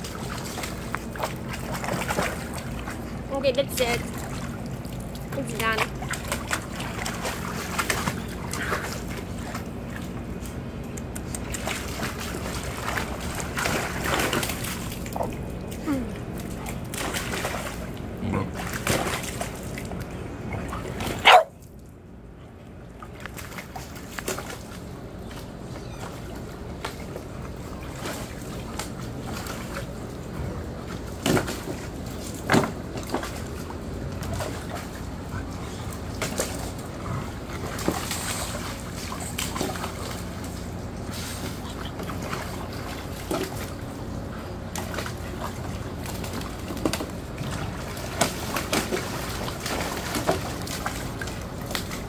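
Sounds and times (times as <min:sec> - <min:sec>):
water splashing in pool: 0:00.0 - 0:52.0.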